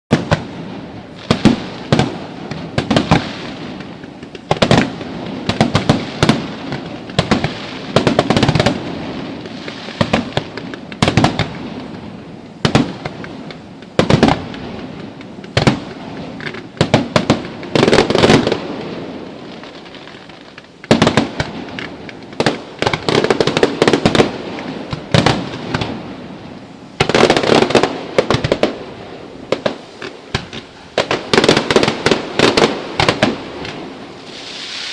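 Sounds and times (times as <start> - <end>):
firework shells bursting: 0.1 - 18.7, 19.3 - 26.0, 29.5 - 34.9
fireworks crackling: 0.1 - 34.9.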